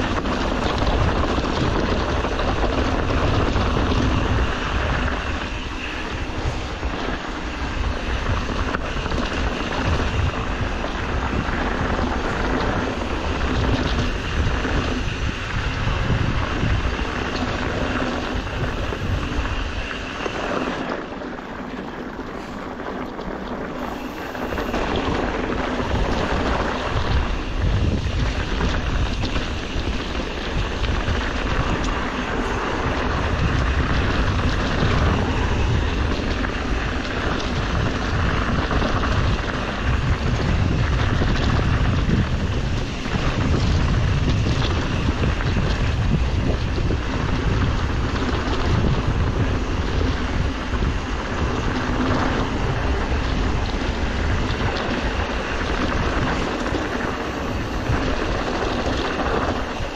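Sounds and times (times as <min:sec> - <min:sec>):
bike rolling on dirt trail: 0:00.0 - 0:59.9
wind buffeting microphone: 0:00.0 - 0:59.9.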